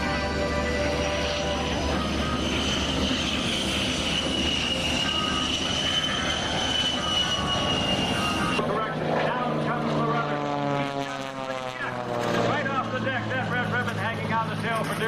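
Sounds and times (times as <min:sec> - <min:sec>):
high engine whine: 0:00.0 - 0:15.0
plane flying over: 0:00.0 - 0:15.0.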